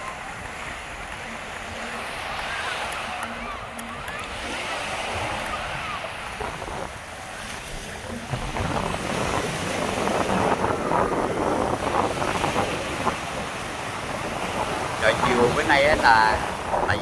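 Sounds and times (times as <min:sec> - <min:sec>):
waves breaking on beach: 0:00.0 - 0:17.0
wind on microphone: 0:00.0 - 0:17.0.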